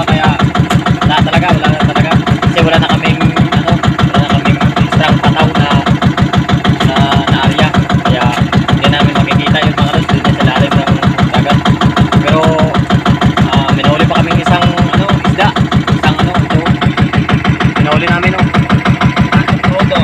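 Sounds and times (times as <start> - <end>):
boat engine pulsing: 0.0 - 20.0.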